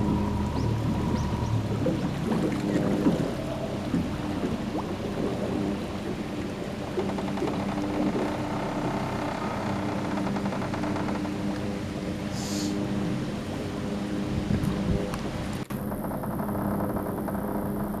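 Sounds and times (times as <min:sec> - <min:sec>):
boat engine humming: 0:00.0 - 0:18.0
water rushing along hull: 0:00.0 - 0:18.0.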